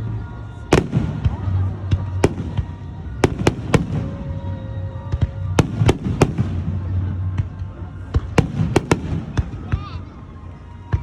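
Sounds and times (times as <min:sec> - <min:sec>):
fireworks bangs: 0:00.6 - 0:09.8.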